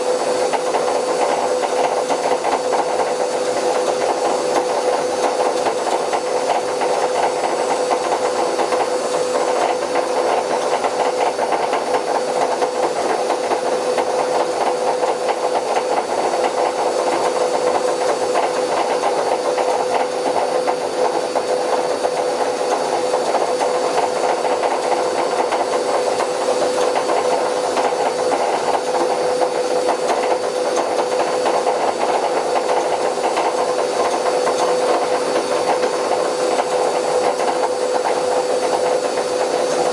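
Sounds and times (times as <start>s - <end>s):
washing machine drum grinding: 0.0s - 39.9s.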